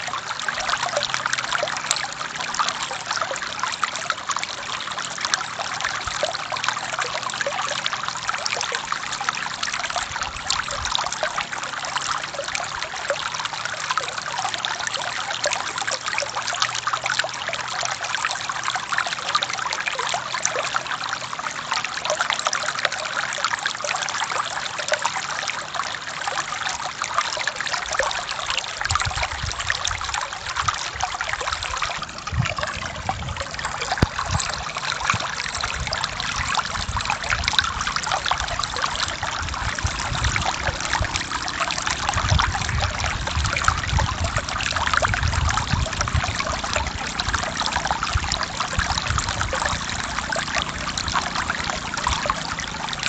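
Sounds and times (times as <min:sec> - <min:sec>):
forest stream babbling: 0:00.0 - 0:53.0.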